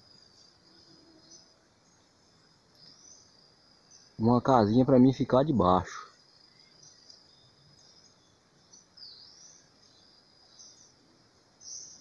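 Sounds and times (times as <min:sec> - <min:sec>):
faint high-pitched chirps: 0:00.0 - 0:12.0.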